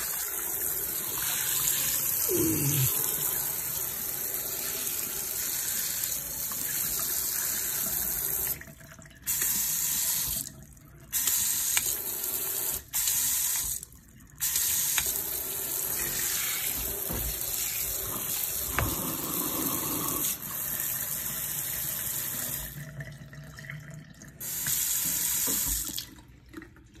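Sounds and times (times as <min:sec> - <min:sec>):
faucet water running into sink: 0:00.0 - 0:27.0.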